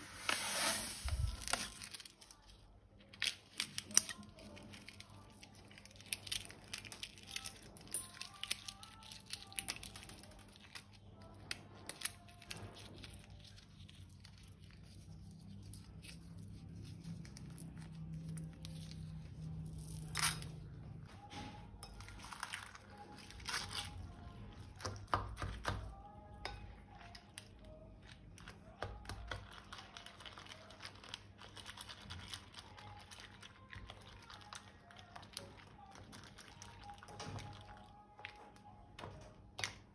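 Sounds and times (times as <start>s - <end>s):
plastic crinkling and tearing: 0.1s - 21.3s, 21.9s - 24.4s, 27.6s - 38.0s.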